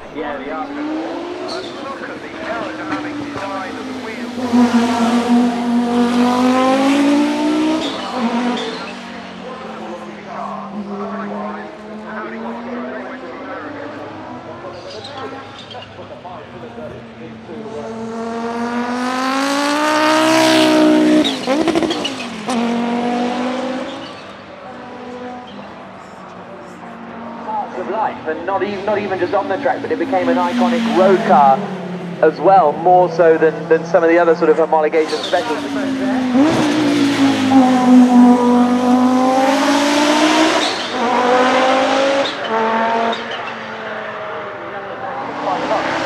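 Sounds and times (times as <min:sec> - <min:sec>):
race car engine: 0:00.0 - 0:46.0.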